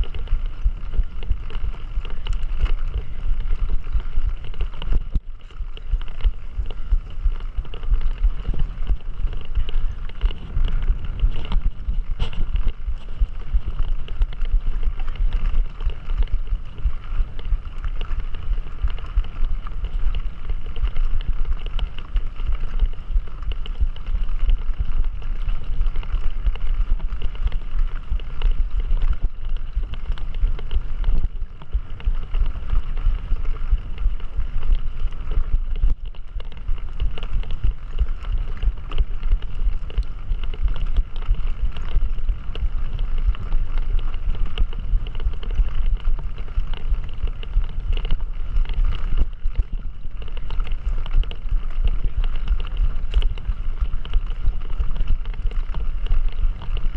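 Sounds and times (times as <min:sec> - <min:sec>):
bike rattles and knocks: 0:00.0 - 0:56.0
wind buffeting microphone: 0:00.0 - 0:56.9.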